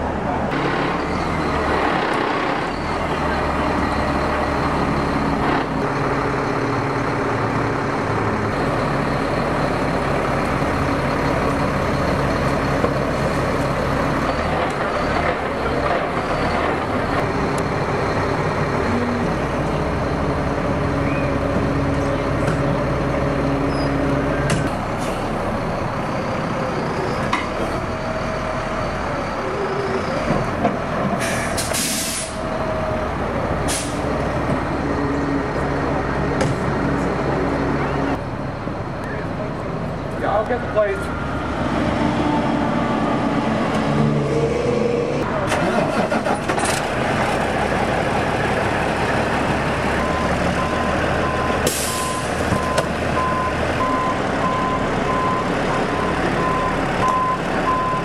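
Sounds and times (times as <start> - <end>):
tow truck engine running: 0.0 - 58.0.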